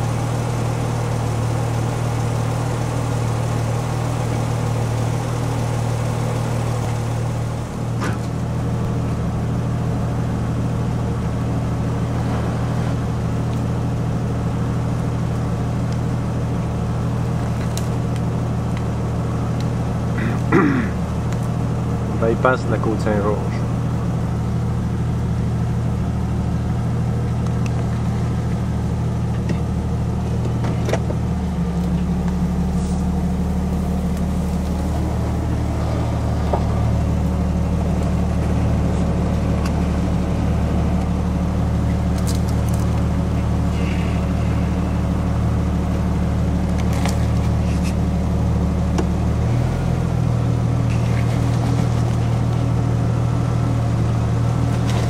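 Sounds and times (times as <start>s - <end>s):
engine running at low idle: 0.0s - 55.0s.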